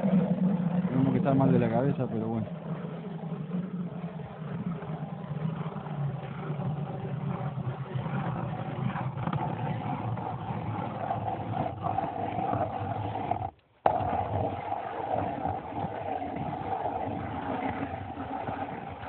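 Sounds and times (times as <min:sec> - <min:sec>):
ice auger motor boring: 0:03.0 - 0:19.0.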